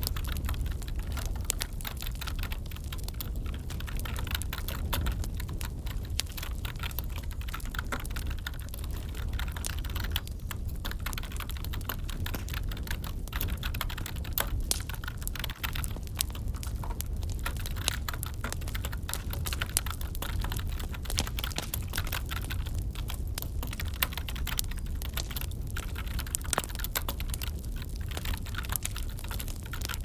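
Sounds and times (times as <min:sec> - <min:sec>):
computer keyboard typing: 0:00.0 - 0:30.0
wood fire crackling: 0:00.0 - 0:30.0.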